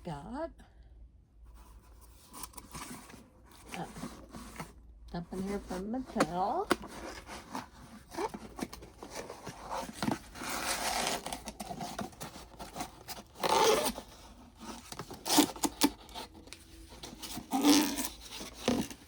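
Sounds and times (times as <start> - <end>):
packaging rustling and crinkling: 2.1 - 19.0.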